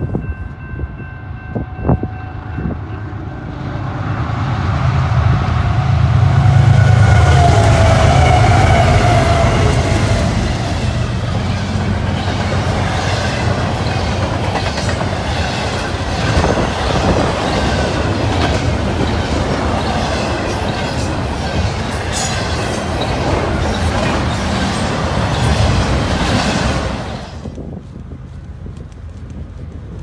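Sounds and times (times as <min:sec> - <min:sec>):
diesel locomotive drone: 0:00.0 - 0:30.0
train wheels on rails: 0:00.0 - 0:30.0.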